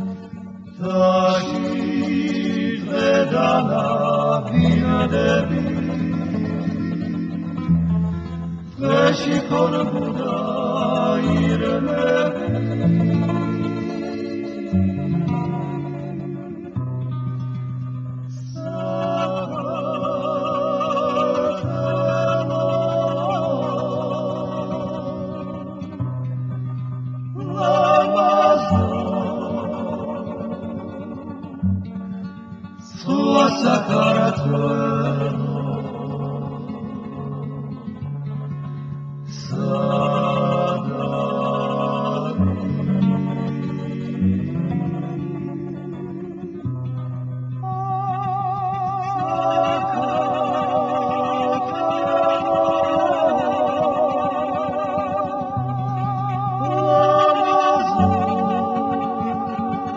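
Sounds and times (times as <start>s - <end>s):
person singing with vibrato: 0.0s - 32.0s, 32.8s - 59.9s
plucked guitar: 0.0s - 59.9s.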